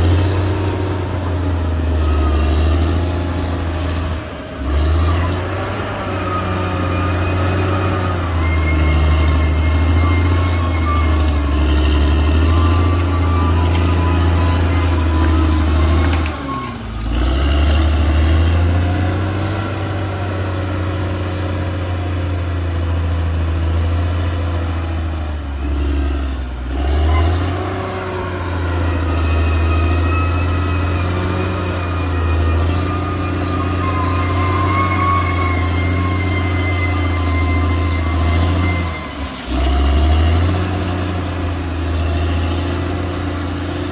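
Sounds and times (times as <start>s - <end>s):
bulldozer diesel engine under load: 0.0s - 43.9s.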